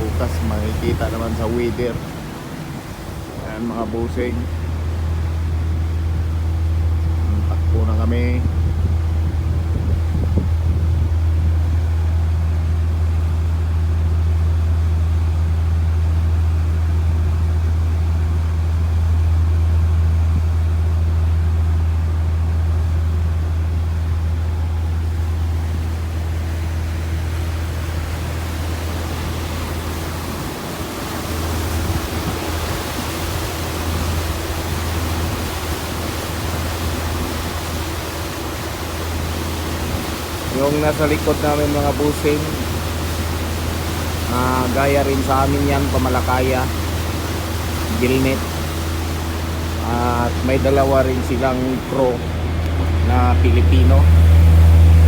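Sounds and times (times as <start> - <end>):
boat engine droning: 0.0 - 55.0
wind and sea rushing: 0.0 - 55.0.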